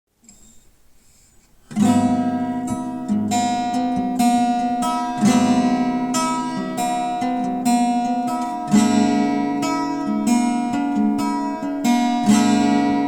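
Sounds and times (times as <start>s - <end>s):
acoustic guitar strumming chords: 1.6s - 13.0s.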